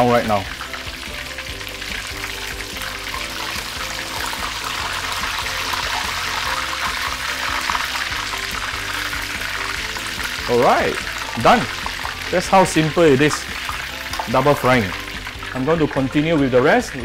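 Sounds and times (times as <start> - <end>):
background music: 0.0 - 17.0
chicken sizzling in hot oil: 0.0 - 17.0.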